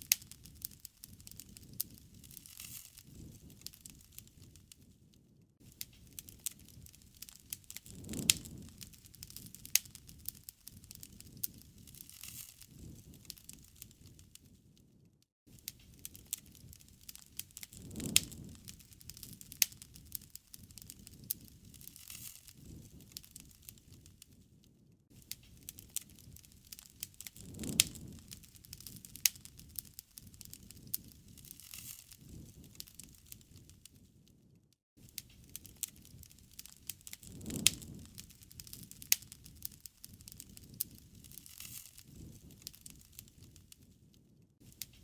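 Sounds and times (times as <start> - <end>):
sharp pops from fire: 0.0 - 34.4, 35.0 - 45.0
low rumble of campfire flames: 0.0 - 45.0
wood fire crackling: 0.0 - 45.0.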